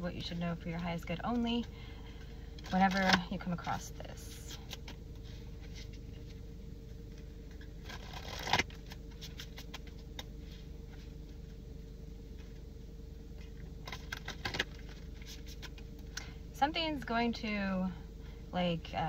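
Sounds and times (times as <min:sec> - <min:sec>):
low hum inside car: 0:00.0 - 0:19.0.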